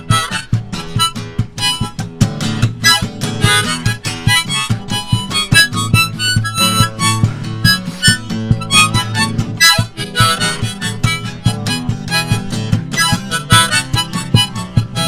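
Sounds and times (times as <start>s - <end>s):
acoustic guitar strumming: 0.0s - 15.0s
harmonica playing blues: 0.0s - 15.0s.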